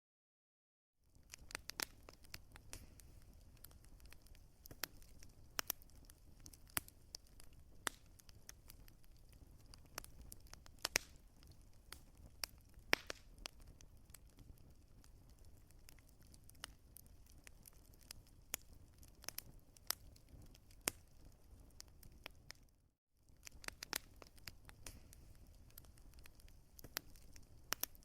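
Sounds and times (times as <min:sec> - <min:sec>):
wood fire crackling and popping: 0:01.1 - 0:28.0.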